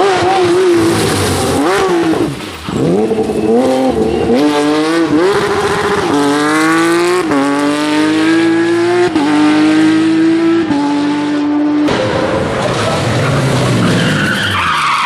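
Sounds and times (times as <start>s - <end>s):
car engine accelerating through gears: 0.0s - 14.1s.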